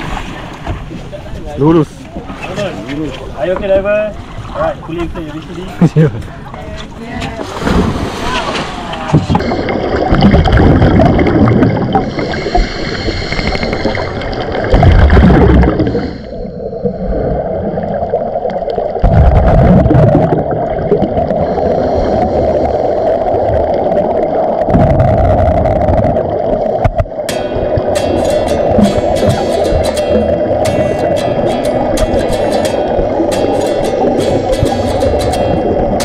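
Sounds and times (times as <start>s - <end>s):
muffled seawater gurgling and sloshing: 0.0s - 36.0s.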